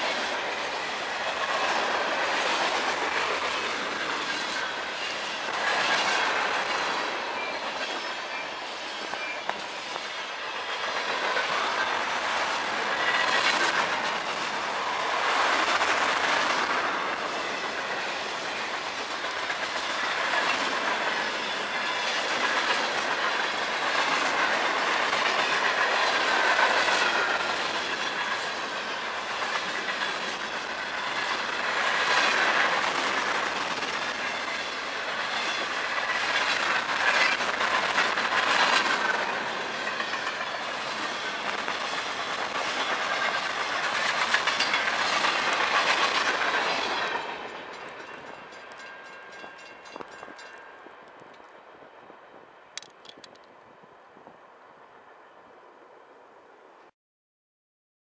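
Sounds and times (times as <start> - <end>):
train wheels clicking over rail joints: 0.0 - 51.6, 52.7 - 53.7.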